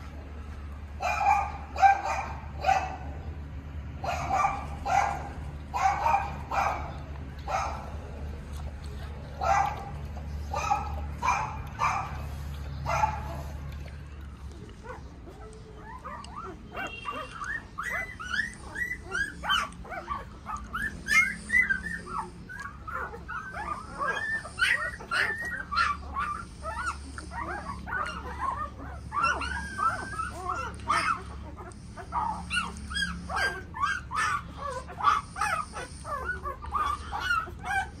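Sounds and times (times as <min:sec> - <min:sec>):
puppies whimpering and yelping: 0:00.0 - 0:38.0.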